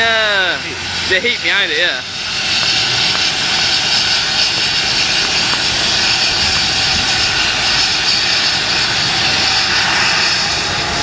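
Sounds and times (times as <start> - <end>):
helicopter rotors turning: 0.0 - 11.0
wind buffeting microphone: 0.0 - 11.0.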